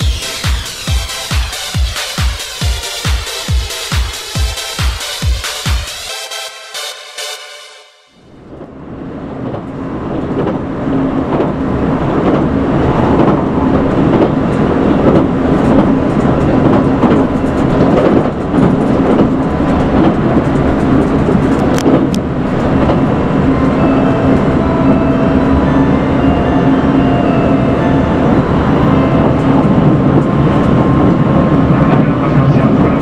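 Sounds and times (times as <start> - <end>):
train cabin rumble with low hum: 0.0 - 6.2, 8.2 - 33.0.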